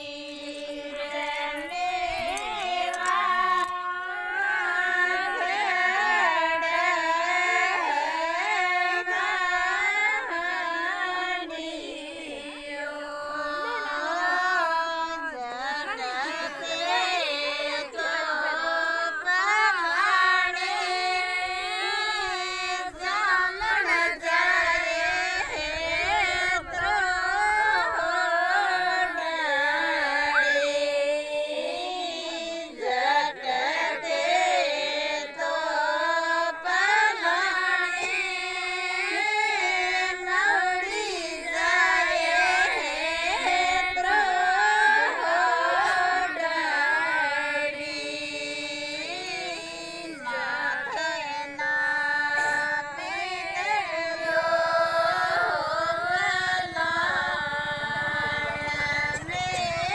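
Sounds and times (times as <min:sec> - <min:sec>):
women singing folk song: 0:00.0 - 0:59.9.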